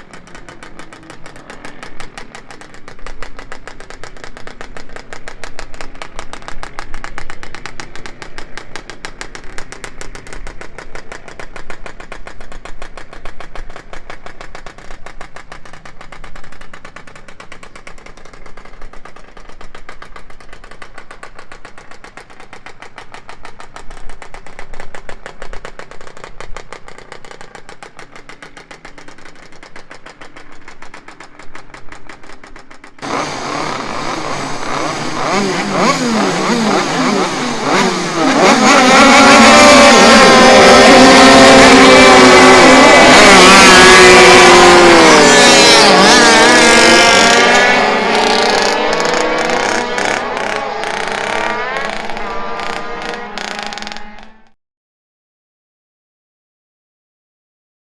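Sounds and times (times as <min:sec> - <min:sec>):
two-stroke motorcycle engine: 0:00.0 - 0:54.6.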